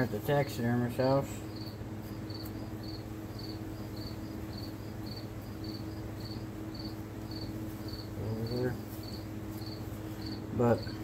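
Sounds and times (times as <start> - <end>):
low electrical hum: 0.0 - 11.0
insect chirping: 1.4 - 11.0.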